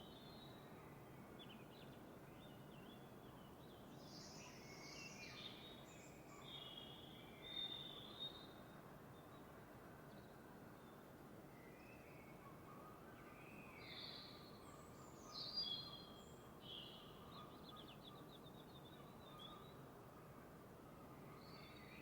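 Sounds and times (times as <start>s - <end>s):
low steady hiss: 0.0s - 22.0s
songbirds singing faintly: 0.0s - 22.0s.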